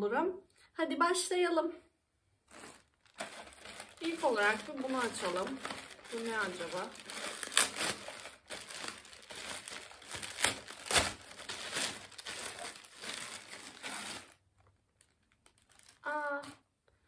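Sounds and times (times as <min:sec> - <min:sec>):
plastic mailer bag crinkling: 0:02.5 - 0:16.6
sharp plastic crackles: 0:02.5 - 0:16.6.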